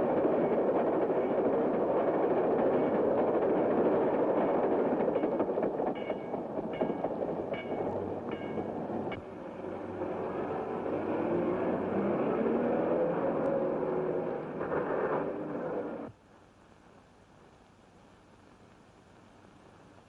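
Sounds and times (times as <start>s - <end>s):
train rumbling: 0.0s - 16.1s.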